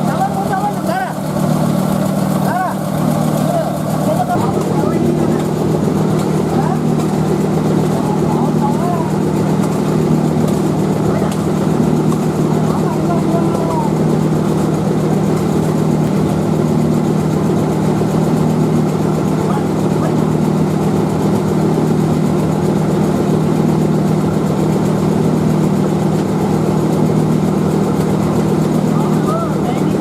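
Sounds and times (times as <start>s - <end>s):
machine humming: 0.0s - 30.0s.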